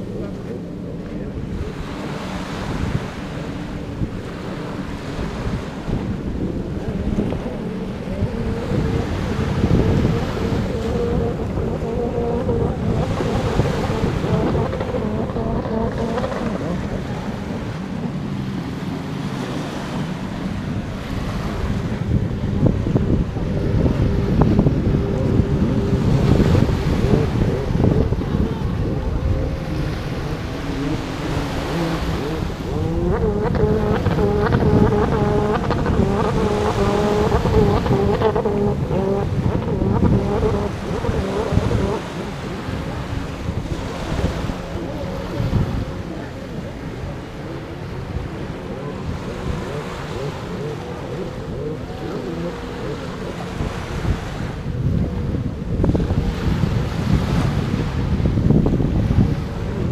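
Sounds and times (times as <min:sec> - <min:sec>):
motorboat engines droning: 0:00.0 - 0:59.9
small waves washing on sand: 0:00.0 - 0:59.9
wind buffeting microphone: 0:00.0 - 0:59.9.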